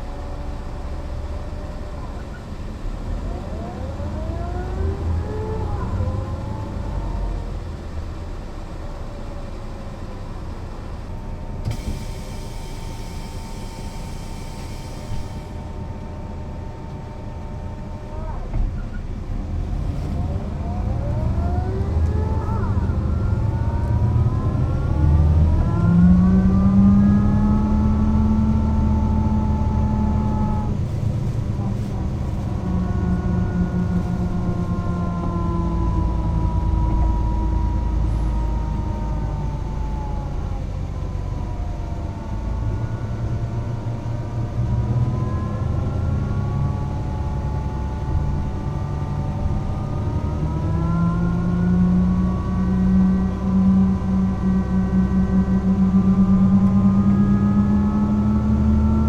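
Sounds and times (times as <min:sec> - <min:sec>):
bus engine rumbling: 0:00.0 - 0:59.0
drivetrain whine: 0:00.0 - 0:59.0.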